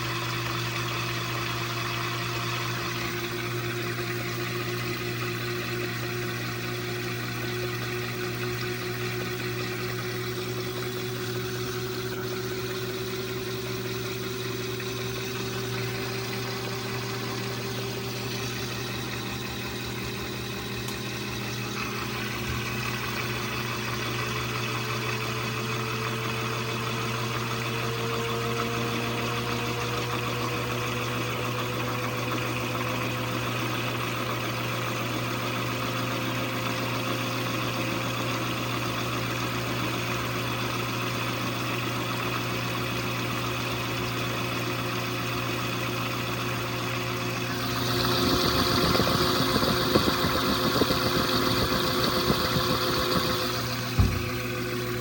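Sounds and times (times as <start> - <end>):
washing machine spinning up: 0.0 - 55.0.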